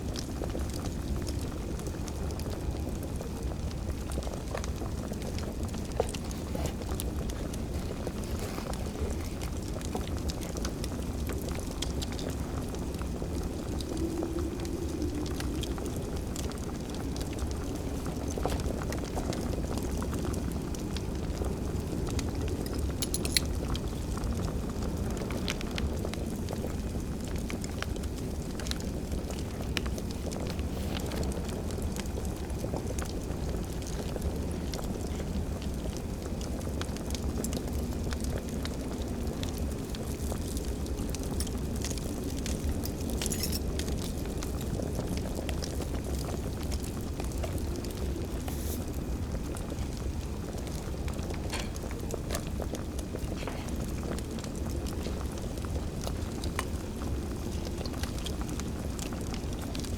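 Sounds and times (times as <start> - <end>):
fire crackling: 0.0 - 59.9.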